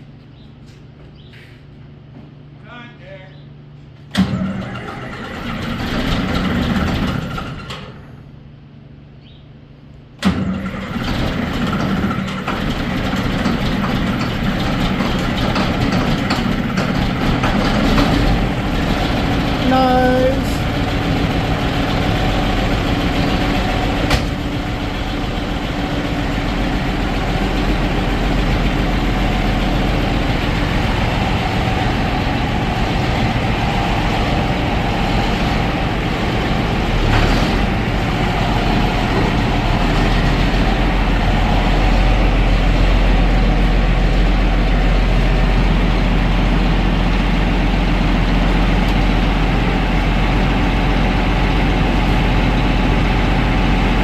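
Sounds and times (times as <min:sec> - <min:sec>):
tractor diesel engine running: 0:03.8 - 0:08.8, 0:10.0 - 0:54.0.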